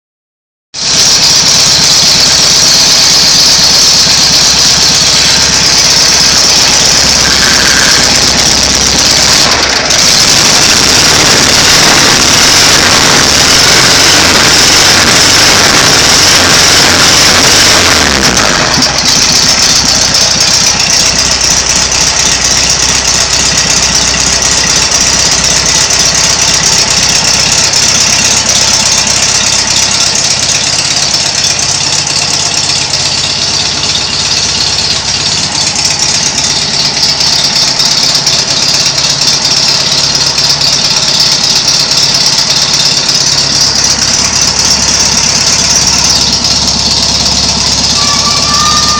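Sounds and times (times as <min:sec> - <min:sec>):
car engine running: 0:00.8 - 0:48.9.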